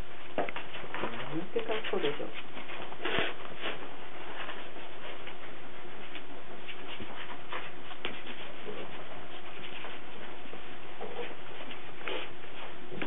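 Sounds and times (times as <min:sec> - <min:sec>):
puppies' paws tapping and scuffling: 0:00.0 - 0:13.0.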